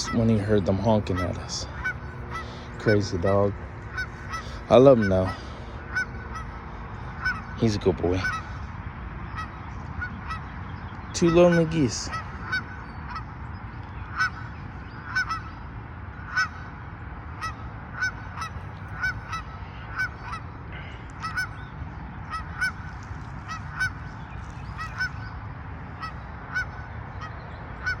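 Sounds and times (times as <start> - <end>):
geese honking: 0.0 - 8.7, 9.3 - 10.5, 11.1 - 13.3, 14.0 - 15.6, 16.2 - 16.7, 17.4 - 28.0.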